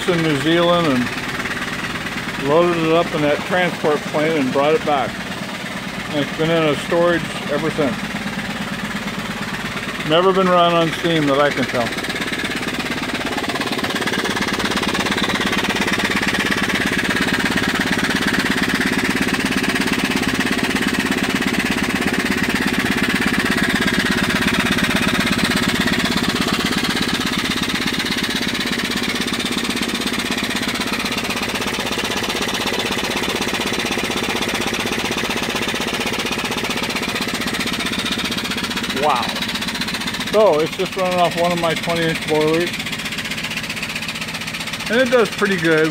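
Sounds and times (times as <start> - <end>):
steam engine running: 0.0 - 45.9.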